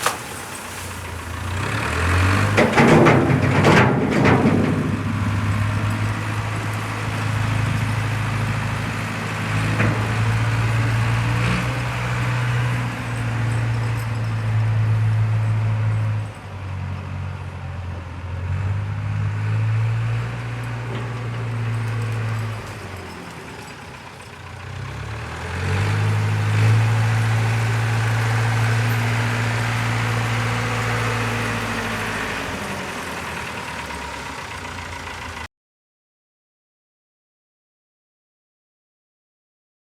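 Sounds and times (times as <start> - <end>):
wheel loader diesel engine: 0.0 - 35.5.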